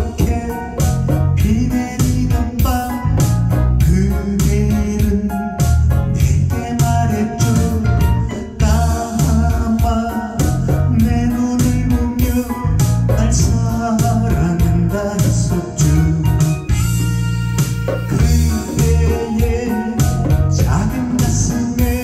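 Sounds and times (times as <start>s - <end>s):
man singing into microphone: 0.0s - 16.9s, 18.0s - 22.0s
band with bass and beat: 0.0s - 22.0s.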